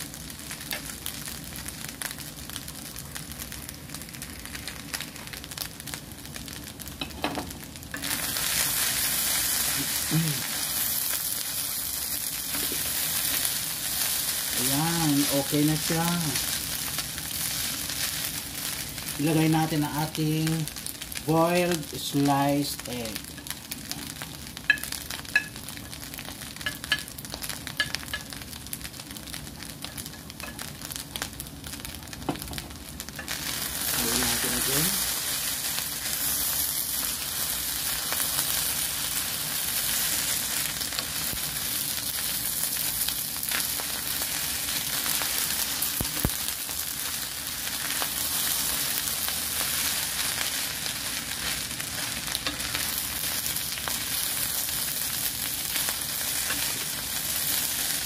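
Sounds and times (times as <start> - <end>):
fried rice sizzling: 0.0 - 58.0.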